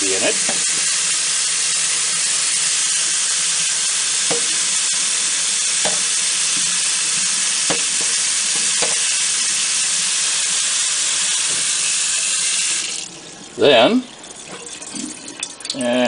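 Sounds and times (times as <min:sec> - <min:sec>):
tap water running through strainer: 0:00.0 - 0:16.0.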